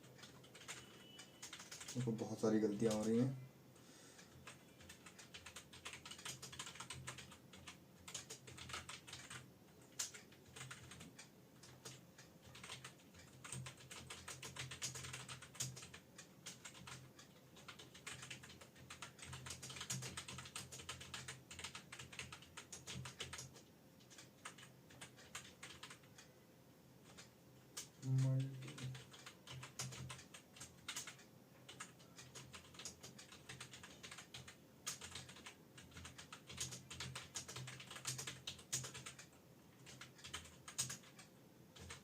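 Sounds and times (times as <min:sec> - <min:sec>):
fast keyboard typing: 0:00.0 - 0:03.4, 0:04.2 - 0:26.3, 0:27.0 - 0:42.0.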